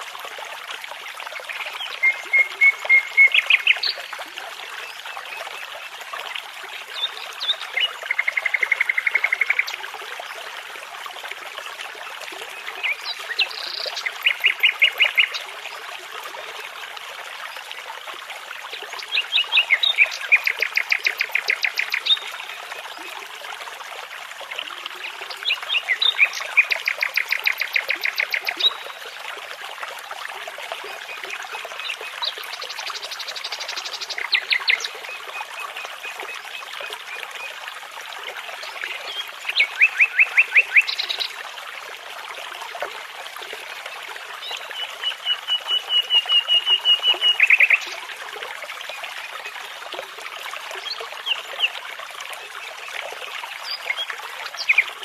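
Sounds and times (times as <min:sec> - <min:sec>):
babbling brook: 0:00.0 - 0:55.0.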